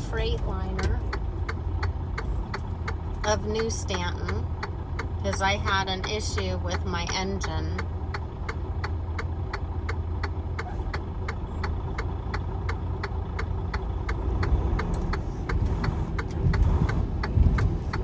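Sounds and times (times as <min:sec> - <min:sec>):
diesel engine rumbling: 0:00.0 - 0:18.0
even ticking: 0:00.0 - 0:18.0
low bumps: 0:00.0 - 0:18.0.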